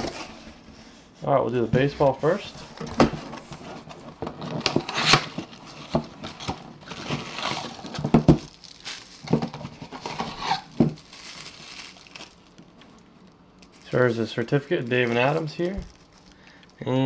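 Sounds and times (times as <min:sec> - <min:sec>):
paper and plastic rustling: 0:01.8 - 0:13.0, 0:13.6 - 0:16.6.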